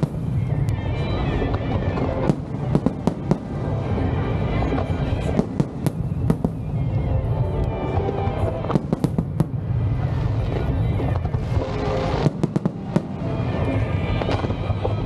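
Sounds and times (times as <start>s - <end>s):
firework bangs and crackles: 0.0s - 15.0s
low rumble of fireworks: 0.0s - 15.0s.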